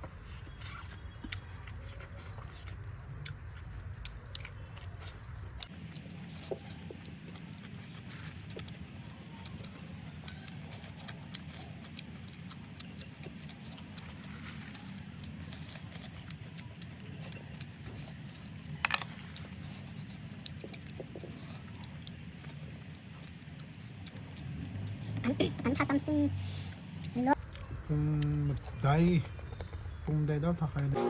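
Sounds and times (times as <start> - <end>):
chewing clicks and crunches: 0.0 - 30.1.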